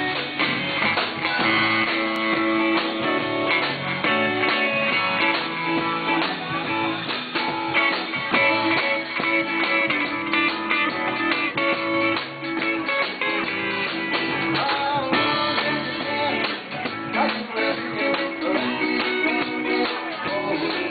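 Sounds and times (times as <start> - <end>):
live band with guitars: 0.0 - 20.9.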